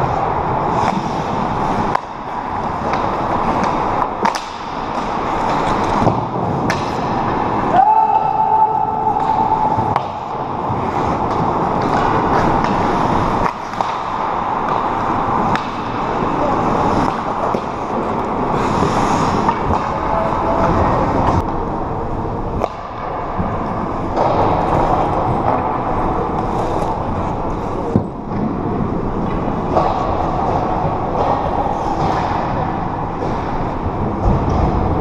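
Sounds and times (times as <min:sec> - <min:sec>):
skates scraping on ice: 0:00.0 - 0:07.8, 0:08.8 - 0:21.6, 0:22.6 - 0:35.0
hockey sticks and puck clacking: 0:00.0 - 0:35.0.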